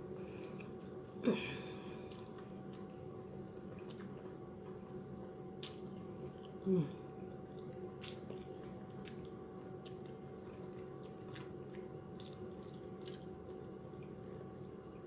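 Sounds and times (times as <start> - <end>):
soft chewing with small clicks: 0.0 - 15.0.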